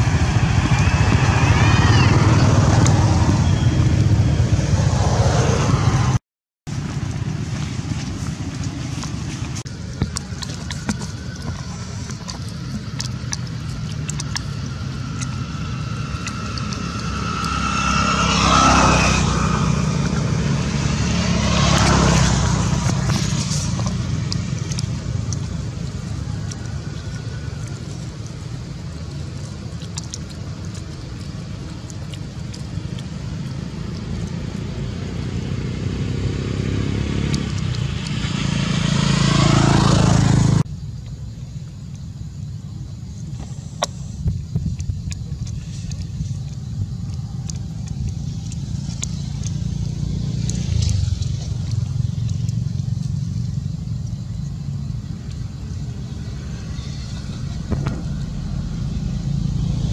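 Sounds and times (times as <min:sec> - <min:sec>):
traffic rumble: 0:00.0 - 0:59.9
vehicles passing: 0:00.0 - 0:59.9.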